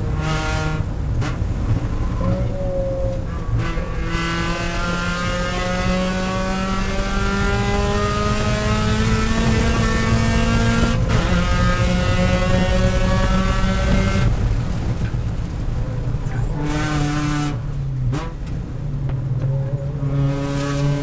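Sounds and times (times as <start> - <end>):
race car engine accelerating: 0.0 - 15.4, 19.4 - 21.0.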